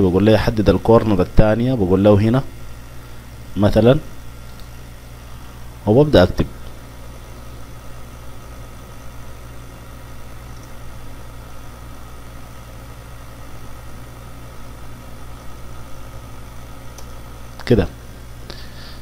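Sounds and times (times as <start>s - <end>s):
electrical hum and hiss: 0.0s - 19.0s
faint steady whine: 0.0s - 19.0s.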